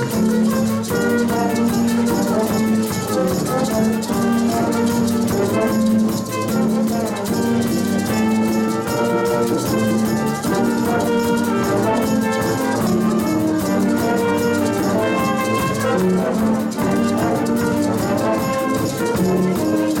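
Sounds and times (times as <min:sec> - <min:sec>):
saxophones and brass: 0:00.0 - 0:20.0.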